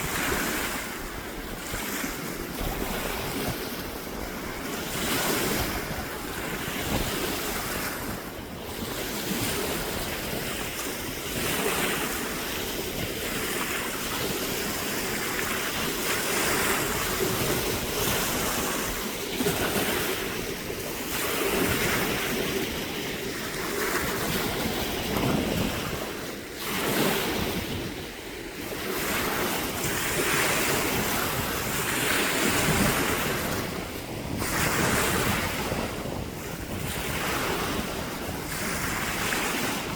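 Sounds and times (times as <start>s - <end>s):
sea waves washing in: 0.0s - 39.9s
wind buffeting microphone: 0.0s - 39.9s.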